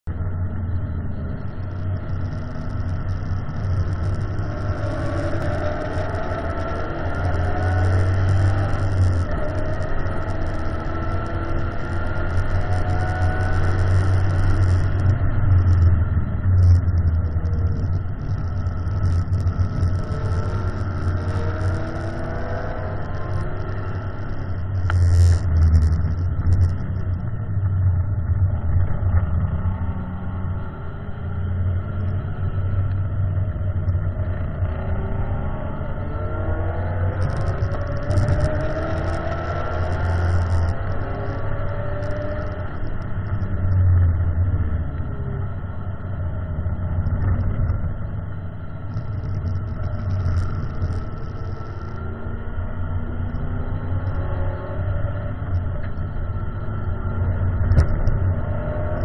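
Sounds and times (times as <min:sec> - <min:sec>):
car engine accelerating: 0:00.0 - 0:59.0
steady low drone: 0:00.0 - 0:59.0.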